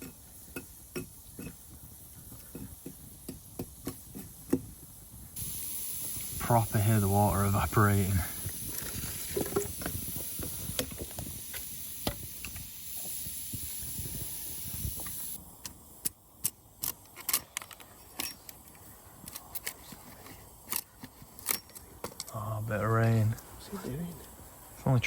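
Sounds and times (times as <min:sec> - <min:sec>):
fire ticking and popping: 0:00.0 - 0:23.6
wet firewood hissing: 0:00.0 - 0:24.9.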